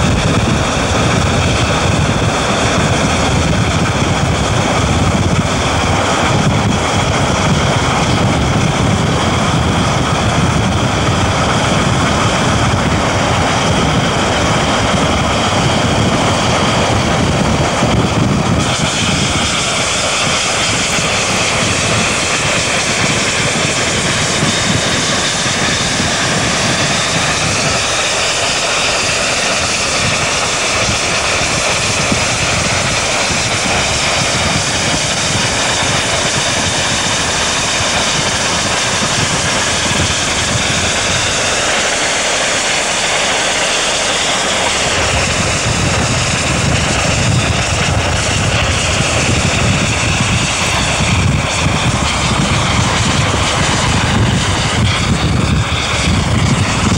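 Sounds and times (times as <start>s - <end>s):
steam locomotives passing at speed: 0.0s - 56.9s.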